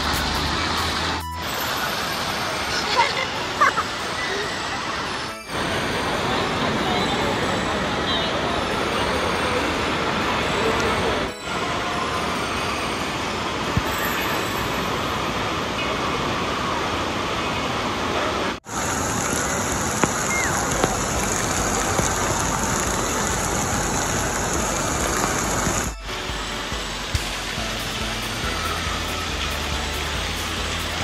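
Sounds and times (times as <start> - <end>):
water rushing and splashing: 0.0 - 31.0.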